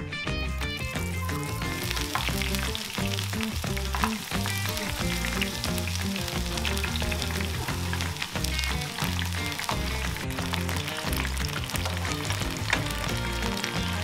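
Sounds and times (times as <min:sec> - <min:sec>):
background music with bass: 0:00.0 - 0:14.0
food deep-frying in oil: 0:00.5 - 0:14.0.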